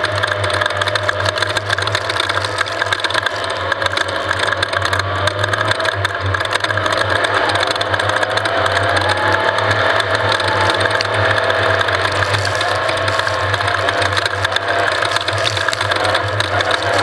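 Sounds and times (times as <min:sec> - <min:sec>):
fast rattling and clattering: 0:00.0 - 0:17.0
vehicle engine running: 0:00.0 - 0:17.0.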